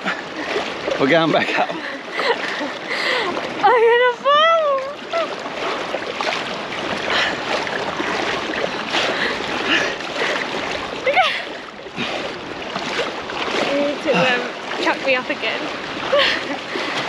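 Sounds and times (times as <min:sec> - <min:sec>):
water splashing from wading: 0:00.0 - 0:17.0.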